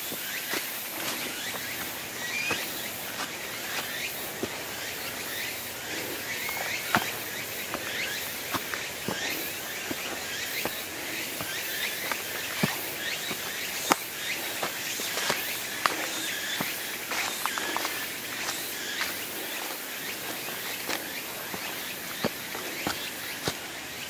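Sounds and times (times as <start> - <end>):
footsteps on rocky trail: 0.0 - 24.0
steady outdoor hiss: 0.0 - 24.0.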